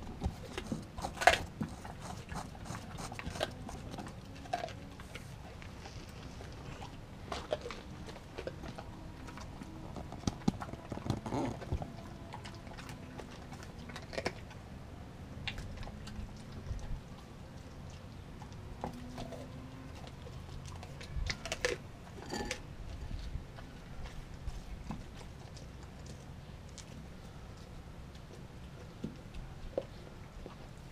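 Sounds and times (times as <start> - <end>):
dog chewing bone: 0.0 - 14.7, 15.3 - 30.9.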